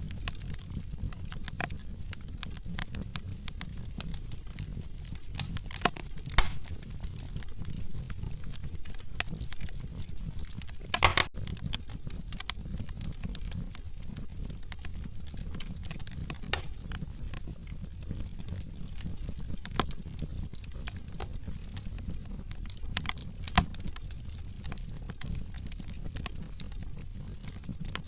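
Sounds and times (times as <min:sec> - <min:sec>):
burning logs popping and snapping: 0:00.0 - 0:28.0
fire flames rumbling: 0:00.0 - 0:28.0.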